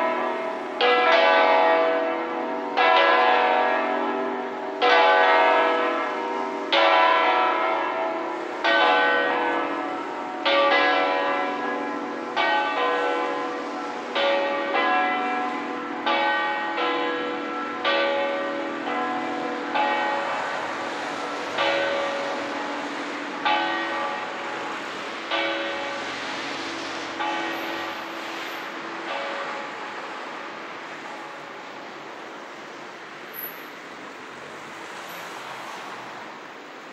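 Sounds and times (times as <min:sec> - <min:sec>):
church bells ringing: 0:00.0 - 0:32.6.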